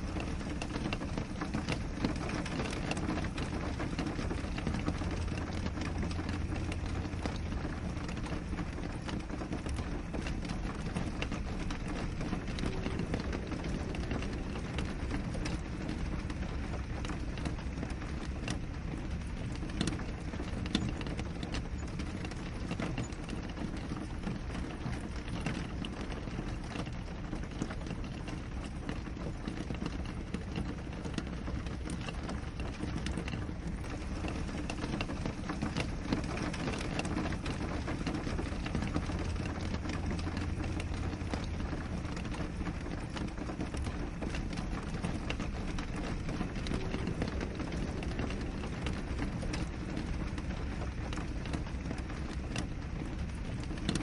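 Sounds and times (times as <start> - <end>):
rain on a window: 0.0 - 54.0.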